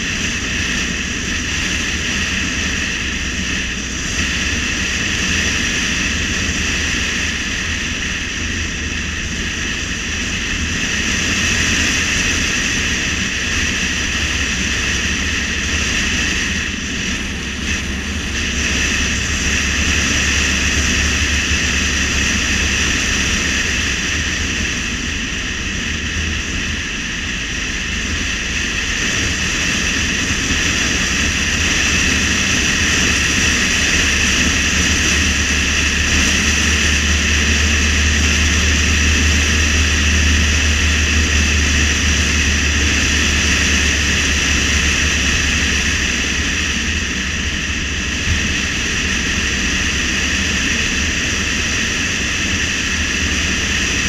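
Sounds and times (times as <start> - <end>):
car driving on highway: 0.0 - 54.0
low rumble: 0.0 - 54.0.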